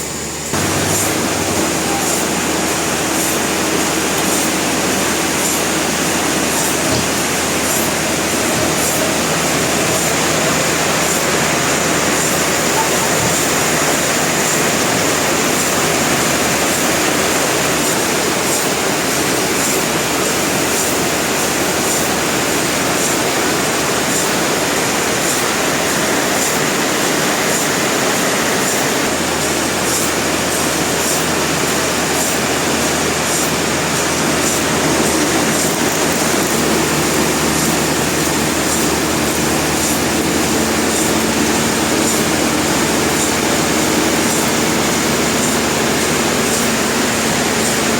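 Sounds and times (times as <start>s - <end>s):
sawmill machinery din: 0.0s - 47.9s.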